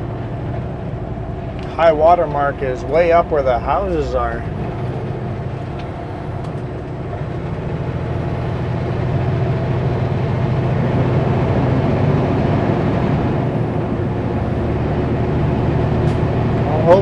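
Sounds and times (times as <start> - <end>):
road noise: 0.0 - 17.0
truck diesel engine droning: 0.0 - 17.0.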